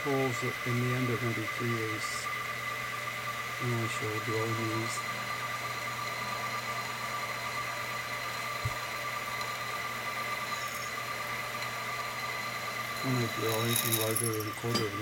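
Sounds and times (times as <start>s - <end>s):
drill press whining: 0.0s - 15.0s.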